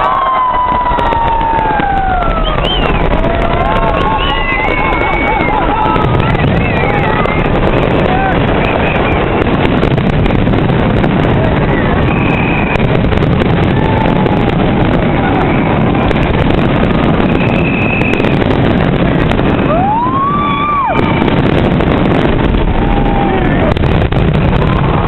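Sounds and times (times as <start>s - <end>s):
firework whistling: 0.0s - 25.0s
rumble of firework explosions: 0.0s - 25.0s.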